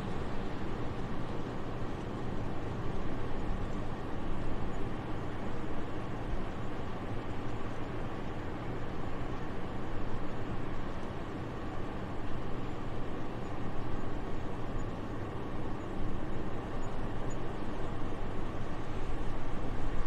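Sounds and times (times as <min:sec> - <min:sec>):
soft steady wind: 0:00.0 - 0:20.0.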